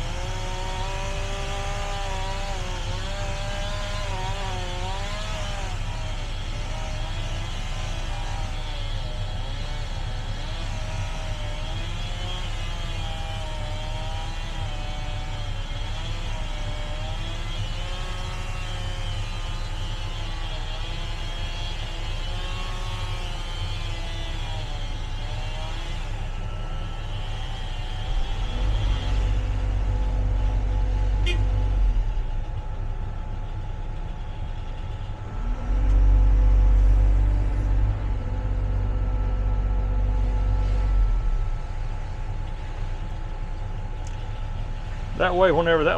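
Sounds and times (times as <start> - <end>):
engine running with whine: 0.0 - 45.9.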